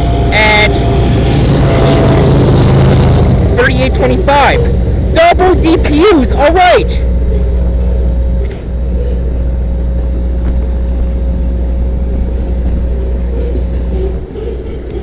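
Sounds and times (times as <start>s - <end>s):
diesel locomotive engine rumble: 0.0s - 15.0s
high whine: 0.0s - 15.0s.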